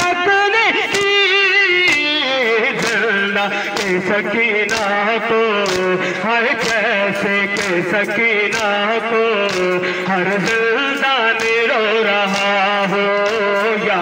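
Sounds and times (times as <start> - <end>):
hands slapping chests: 0.0 - 14.0
man chanting a lament: 0.0 - 14.0.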